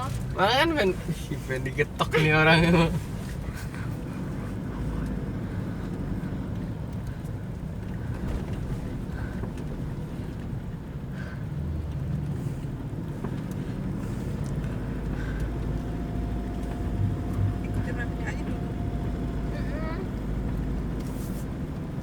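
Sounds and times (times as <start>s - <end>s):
diesel engine rumble: 0.0s - 22.0s
tyre and road noise: 0.0s - 22.0s.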